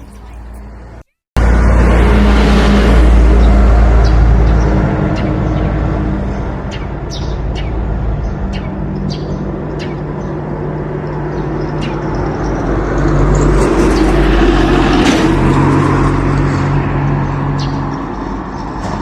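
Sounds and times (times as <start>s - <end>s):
traffic engines running: 0.0s - 19.0s.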